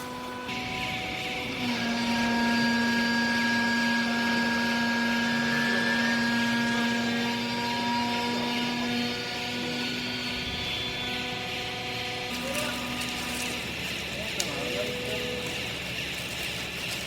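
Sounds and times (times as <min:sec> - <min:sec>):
hydraulic press motor humming: 0:00.0 - 0:17.0
hydraulic pump whine: 0:00.0 - 0:17.0.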